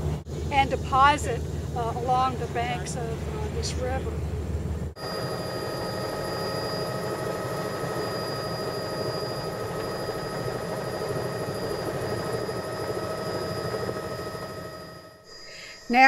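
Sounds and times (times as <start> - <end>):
helicopter engine and rotor drone: 0.0 - 15.3
thin steady whines: 0.0 - 16.0.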